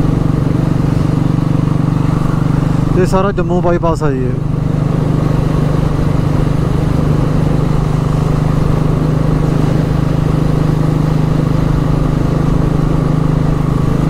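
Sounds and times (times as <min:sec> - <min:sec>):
motorcycle engine cruising: 0:00.0 - 0:14.0
road and wind noise: 0:00.0 - 0:14.0.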